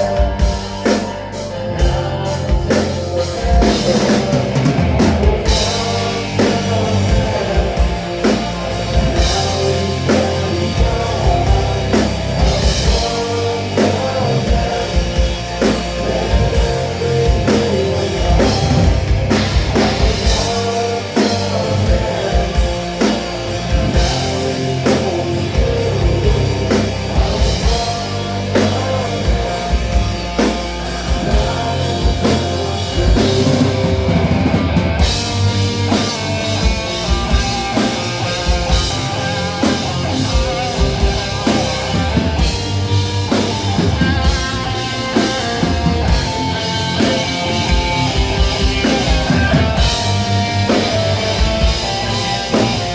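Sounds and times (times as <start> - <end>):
drum kit beating: 0.0 - 52.9
electric guitar: 0.0 - 52.9
rock band playing: 0.0 - 52.9.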